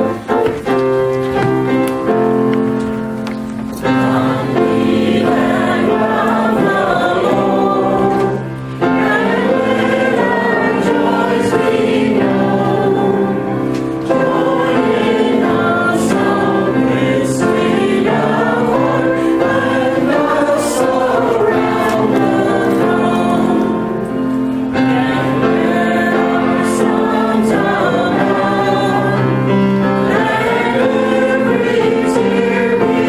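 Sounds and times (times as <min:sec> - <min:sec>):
congregation singing a hymn: 0:00.0 - 0:33.0
keyboard accompaniment: 0:00.0 - 0:33.0.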